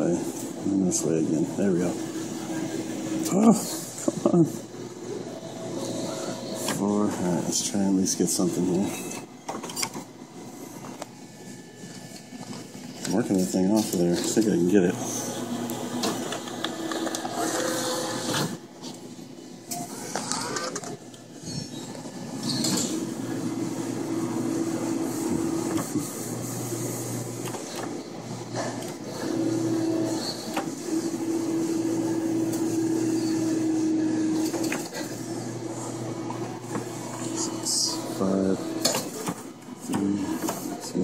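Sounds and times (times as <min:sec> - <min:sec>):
claw machine motor whine: 0:00.0 - 0:41.0.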